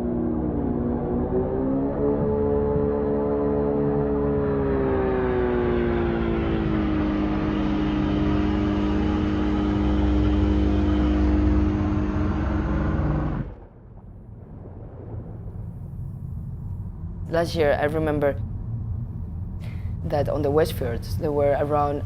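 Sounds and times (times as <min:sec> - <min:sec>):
loud droning hum: 0:00.0 - 0:22.0
low rumble: 0:00.0 - 0:22.0.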